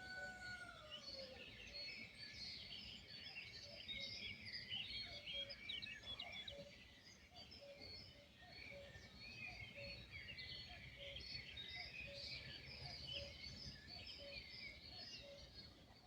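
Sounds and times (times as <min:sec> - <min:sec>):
songbirds chirping and trilling: 0:00.0 - 0:16.0.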